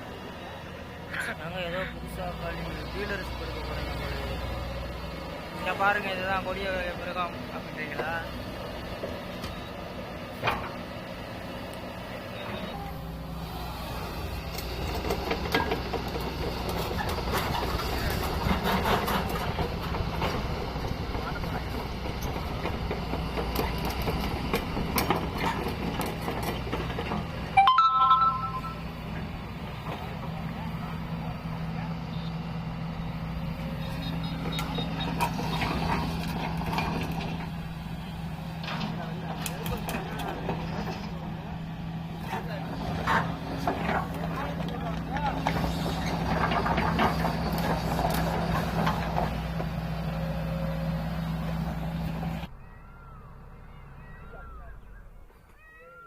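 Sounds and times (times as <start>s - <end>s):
diesel engine running: 0.0s - 55.5s.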